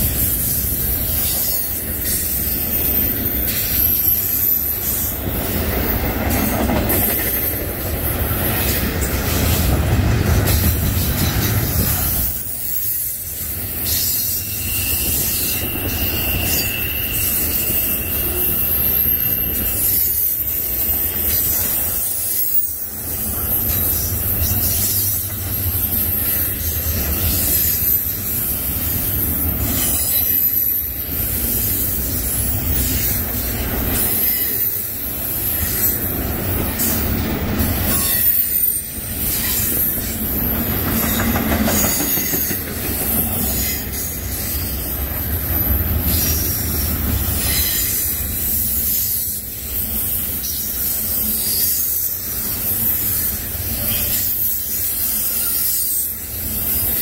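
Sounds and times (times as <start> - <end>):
high-pitched wheel squeal: 0.0 - 7.4, 12.1 - 57.0
steel wheels rumbling on rails: 0.0 - 57.0.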